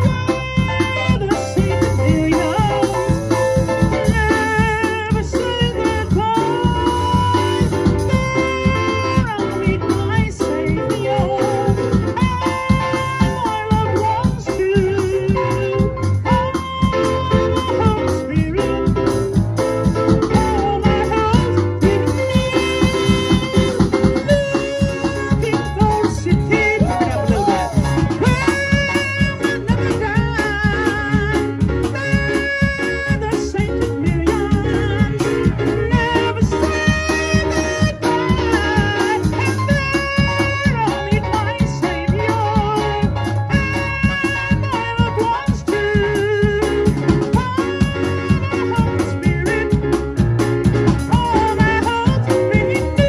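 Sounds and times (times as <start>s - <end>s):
drum kit beat: 0.0s - 53.0s
electric keyboard chords: 0.0s - 53.0s
man singing into microphone: 0.0s - 53.0s.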